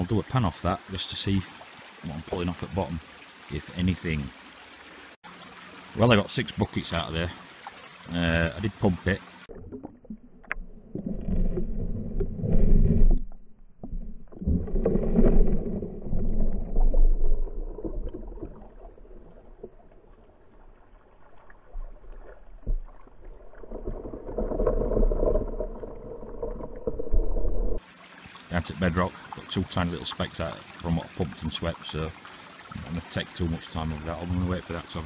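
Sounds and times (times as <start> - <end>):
stream water sloshing: 0.0 - 27.2, 27.8 - 35.0.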